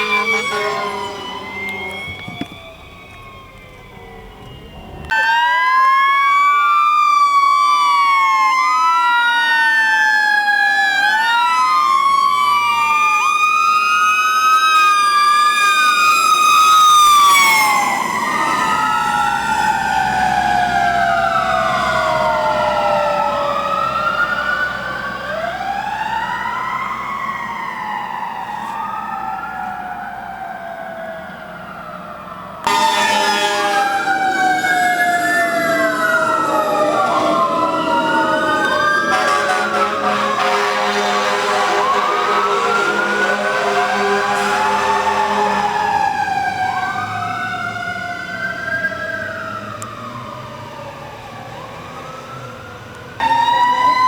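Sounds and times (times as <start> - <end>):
fire truck sirens wailing: 0.0 - 54.0.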